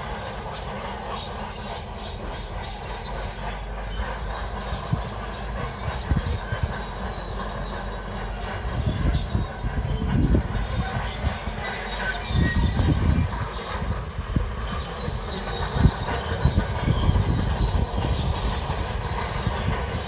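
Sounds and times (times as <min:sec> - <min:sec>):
bulldozer diesel engine running: 0:00.0 - 0:20.0
steel tracks squealing and clanking: 0:00.0 - 0:20.0.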